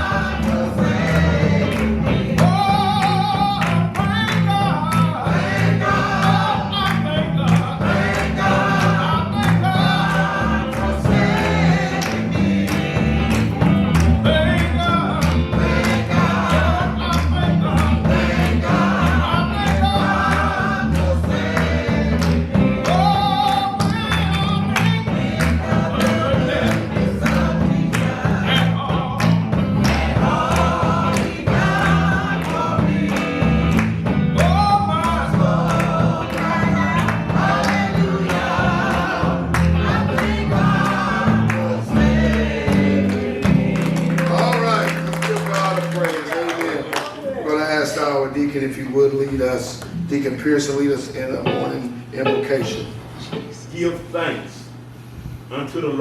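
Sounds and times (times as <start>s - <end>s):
band accompaniment with steady beat: 0.0s - 46.0s
church choir singing gospel: 0.0s - 53.9s.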